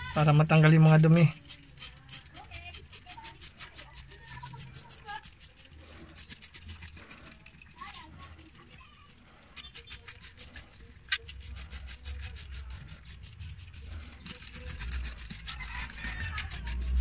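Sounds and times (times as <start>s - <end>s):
spray bottle hissing sprays: 0.2s - 7.6s, 9.6s - 17.0s.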